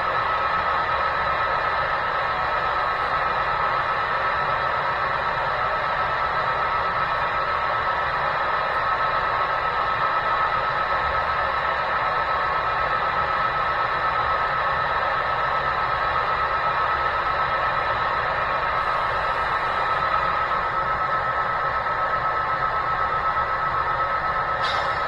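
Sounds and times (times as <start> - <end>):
model locomotive running sound: 0.0 - 25.0.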